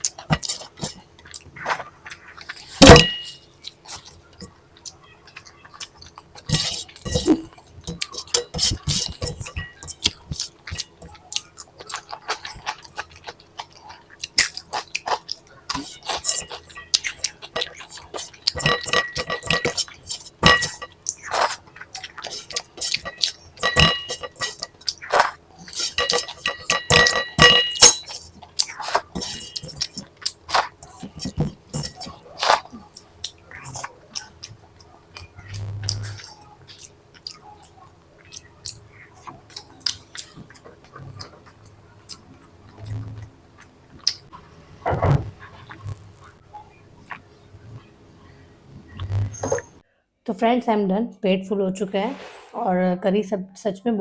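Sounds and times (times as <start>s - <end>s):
mouth chewing and crunching: 0.0s - 49.7s.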